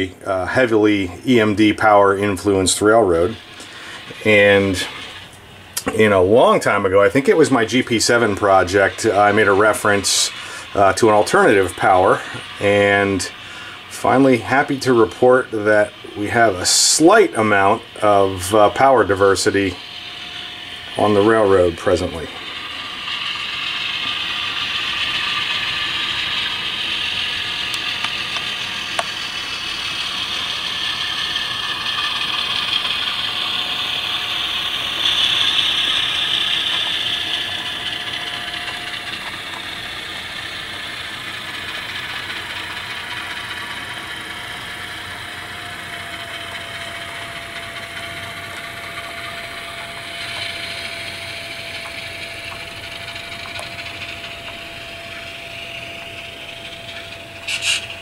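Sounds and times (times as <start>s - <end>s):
model train running mechanism: 0.0s - 58.0s
simulated diesel engine sound: 0.0s - 58.0s
thin steady tone: 0.0s - 58.0s.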